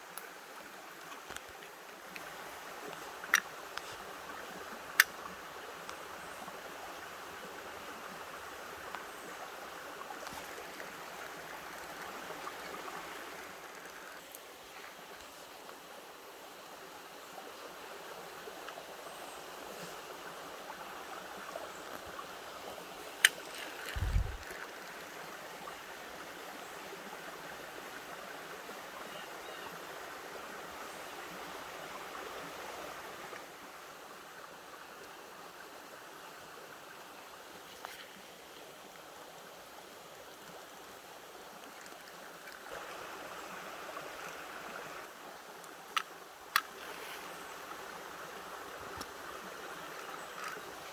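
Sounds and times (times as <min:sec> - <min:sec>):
creek water running: 0:00.0 - 0:50.9.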